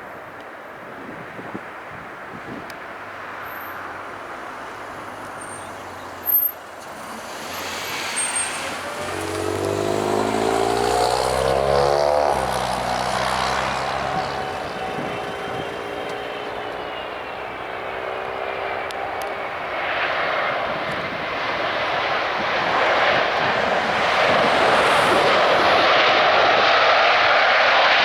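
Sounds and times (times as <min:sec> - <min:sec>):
jet airliner passing: 0:02.3 - 0:28.0.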